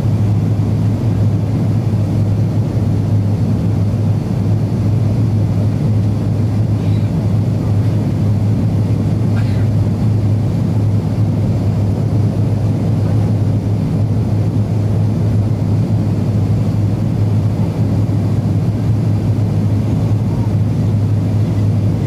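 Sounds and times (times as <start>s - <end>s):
airliner cabin drone: 0.0s - 22.0s.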